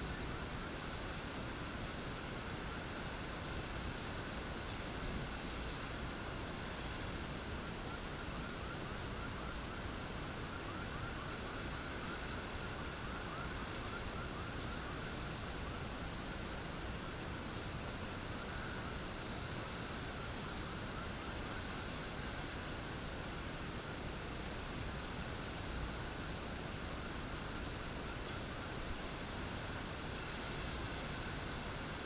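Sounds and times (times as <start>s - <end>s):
light rain hissing: 0.0s - 32.0s.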